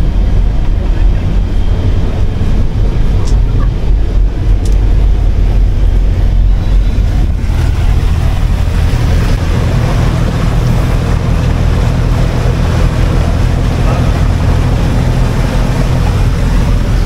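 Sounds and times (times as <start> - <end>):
boat engine drone: 0.0 - 17.0
rush of wind and water: 0.0 - 17.0.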